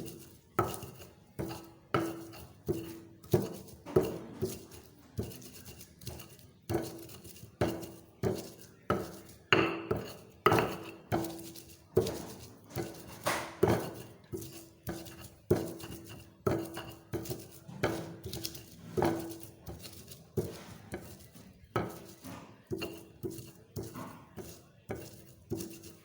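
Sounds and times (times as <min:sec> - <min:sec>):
pestle pounding in a mortar: 0:00.0 - 0:26.0.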